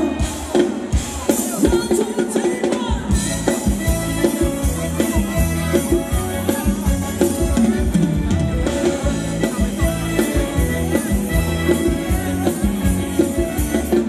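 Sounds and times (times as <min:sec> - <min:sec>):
live dance band music: 0:00.0 - 0:14.0.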